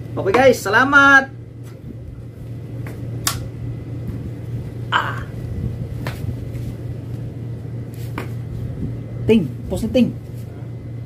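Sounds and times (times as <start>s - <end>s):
room noise hum: 0.0s - 11.0s.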